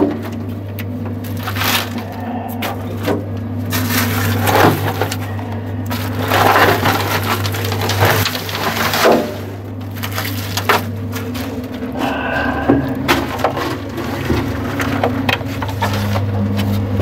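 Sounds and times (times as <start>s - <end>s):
low hum: 0.0s - 17.0s
rubble crunching in mixer drum: 0.0s - 17.0s.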